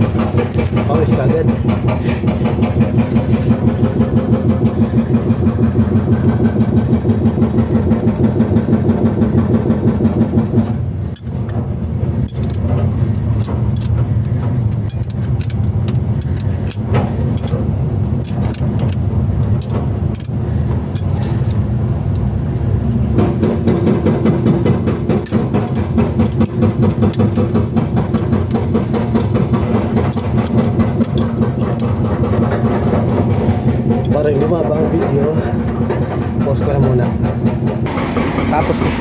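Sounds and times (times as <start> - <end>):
excavator engine running: 0.0 - 39.0
hydraulic breaker hammering: 0.0 - 39.0
sharp clicks and knocks: 0.0 - 39.0.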